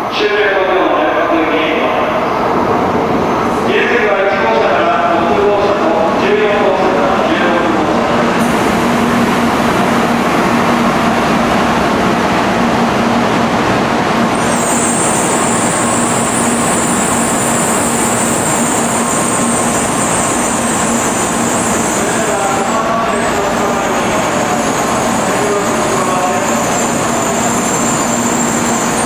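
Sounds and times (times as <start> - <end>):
train rushing roar: 0.0 - 29.0.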